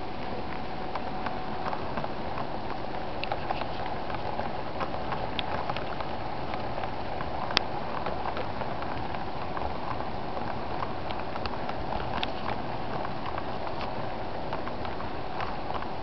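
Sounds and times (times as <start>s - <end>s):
wheels clicking on rails: 0.0s - 16.0s.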